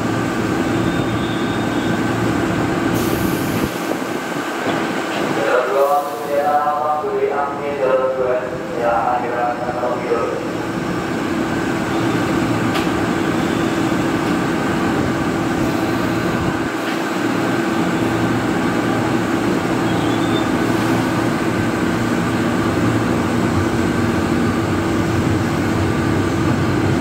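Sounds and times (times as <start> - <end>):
train starting to roll: 0.0 - 27.0.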